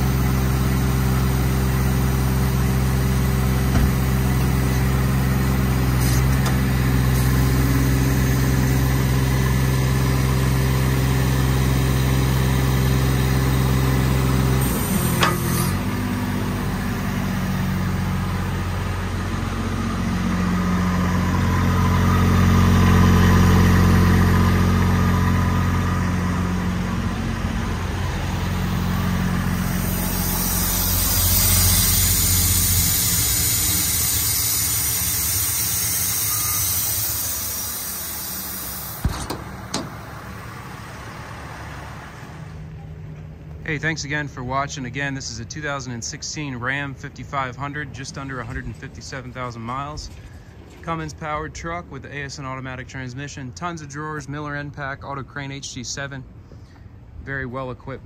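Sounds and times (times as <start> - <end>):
diesel engine running: 0.0 - 55.4.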